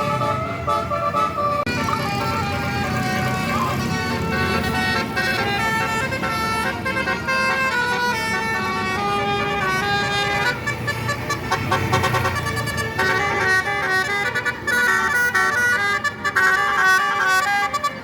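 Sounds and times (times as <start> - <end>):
low engine rumble: 0.0 - 18.0
musical bus horn playing a tune: 0.0 - 18.0.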